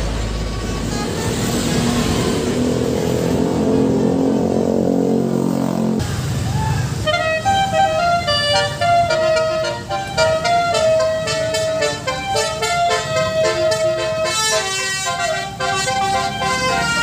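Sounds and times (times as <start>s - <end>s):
bus engine: 0.0s - 17.0s
multi-tone bus horn melody: 0.0s - 17.0s
road noise: 0.0s - 17.0s.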